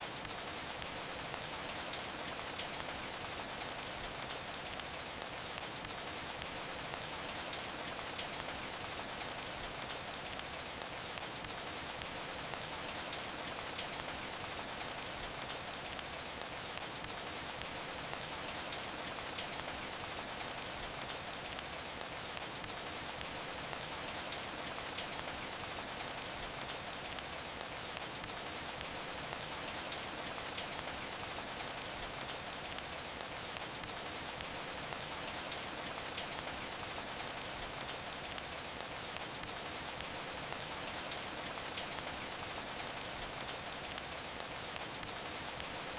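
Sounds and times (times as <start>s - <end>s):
steady rain hiss: 0.0s - 45.9s
wood fire crackling: 0.0s - 45.9s.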